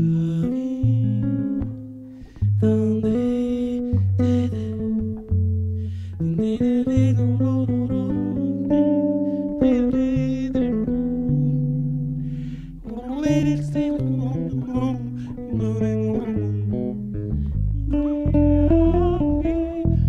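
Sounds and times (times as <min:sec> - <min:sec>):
bass guitar melody: 0:00.0 - 0:20.0
low bass notes: 0:00.0 - 0:20.0.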